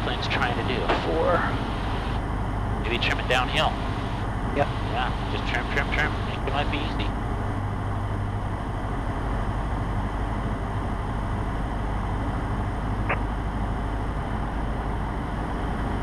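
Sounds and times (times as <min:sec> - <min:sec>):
light aircraft engine and propeller drone: 0:00.0 - 0:16.0.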